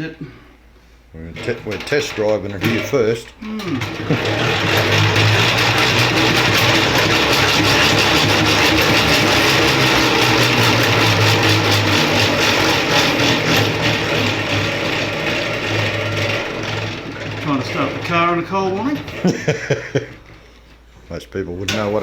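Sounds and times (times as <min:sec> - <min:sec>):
honey extractor whirring: 0:01.2 - 0:22.0.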